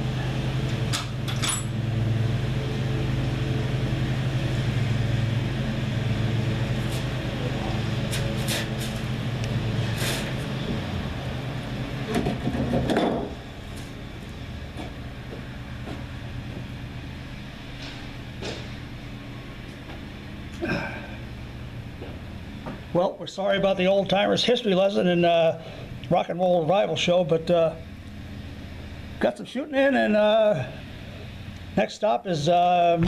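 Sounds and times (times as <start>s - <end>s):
vehicle engine idling: 0.0s - 33.0s.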